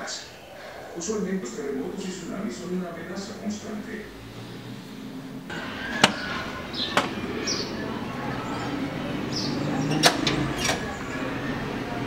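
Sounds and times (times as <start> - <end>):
low street hum: 0.0 - 12.0.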